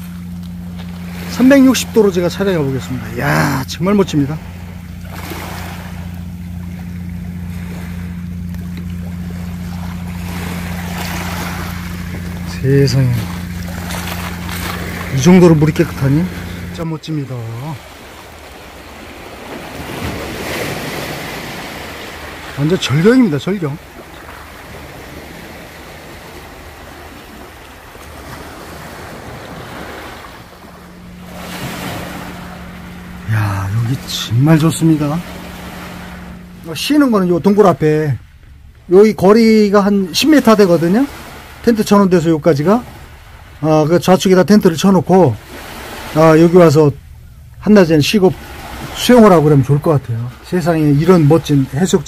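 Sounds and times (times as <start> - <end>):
steady low hum: 0.0 - 52.0
waves washing on shore: 0.0 - 52.0.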